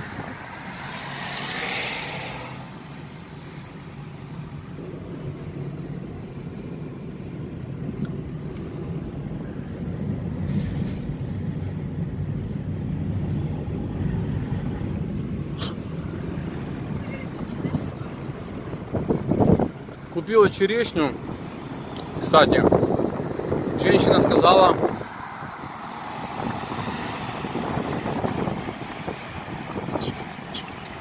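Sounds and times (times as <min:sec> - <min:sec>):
engine and tyre rumble: 0:00.0 - 0:31.0.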